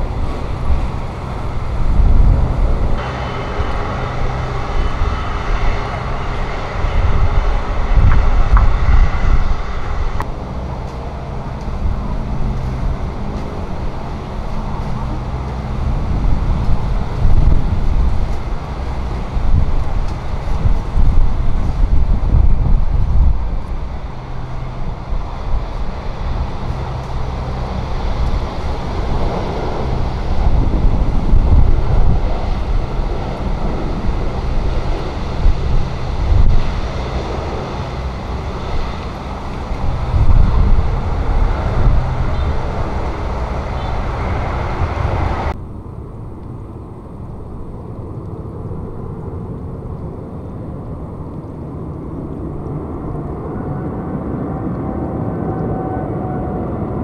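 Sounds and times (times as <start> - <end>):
distant steady noise: 0.0 - 57.0
faint rising engine whine: 0.0 - 57.0
jet engines rumbling: 0.0 - 57.0.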